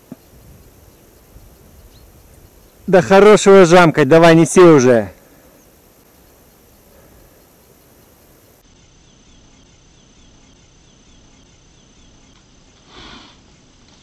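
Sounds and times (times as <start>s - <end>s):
faint steady hiss: 0.0s - 14.0s
insects chirping: 0.0s - 14.0s.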